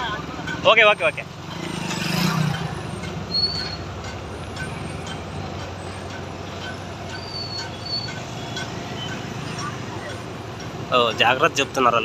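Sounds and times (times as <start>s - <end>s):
crane engines labouring: 0.0s - 12.0s.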